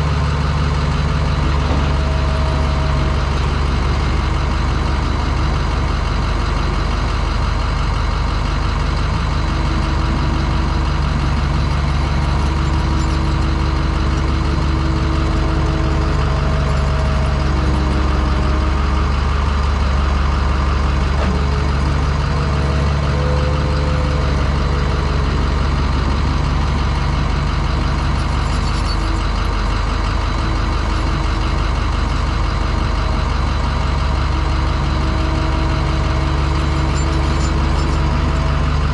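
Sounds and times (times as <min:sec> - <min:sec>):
diesel truck engine drone: 0:00.0 - 0:38.9.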